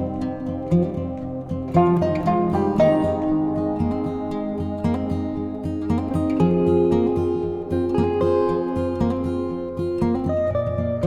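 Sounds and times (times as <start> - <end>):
acoustic guitar melody: 0.0 - 11.0.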